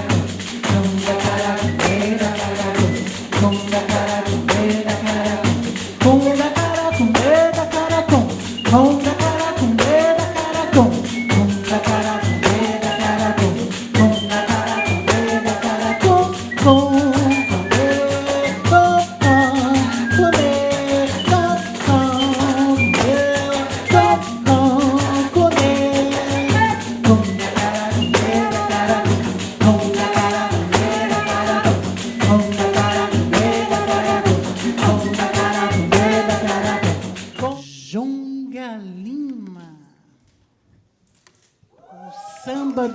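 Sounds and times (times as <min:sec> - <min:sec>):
frame drum ensemble playing: 0:00.0 - 0:37.6.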